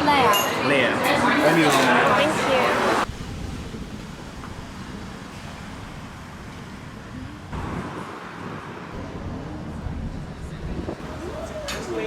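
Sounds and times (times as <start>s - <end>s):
passing cars rumbling: 1.4s - 12.0s.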